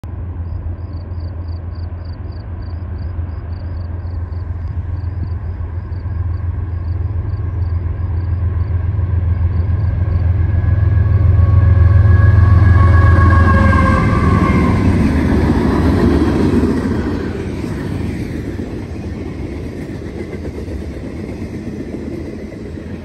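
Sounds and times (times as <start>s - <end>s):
diesel locomotives rumbling: 0.0s - 23.0s.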